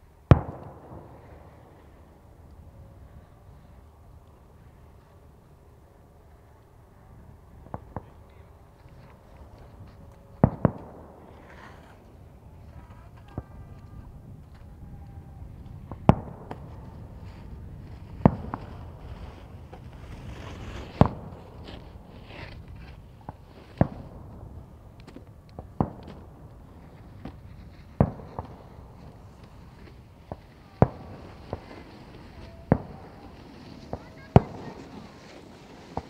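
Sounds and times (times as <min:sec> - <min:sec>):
faint fireworks pops: 0:00.0 - 0:36.0
fireworks bangs: 0:00.0 - 0:36.0.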